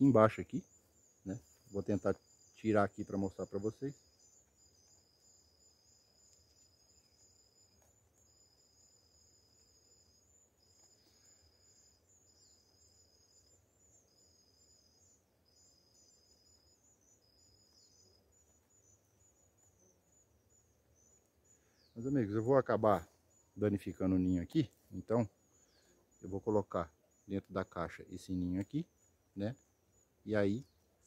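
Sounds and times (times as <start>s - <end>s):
insect pulsing chirr: 0.0s - 31.0s
insect trill: 0.0s - 31.0s.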